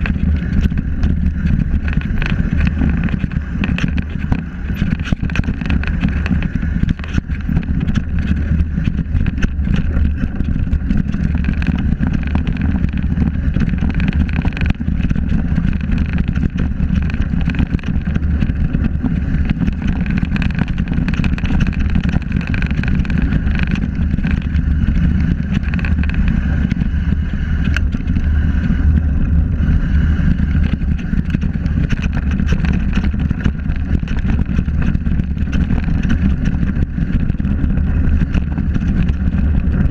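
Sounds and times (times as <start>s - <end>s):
bike rattling over bumps: 0.0s - 39.9s
tyres on gravel: 0.0s - 39.9s
wind on camera microphone: 0.0s - 39.9s.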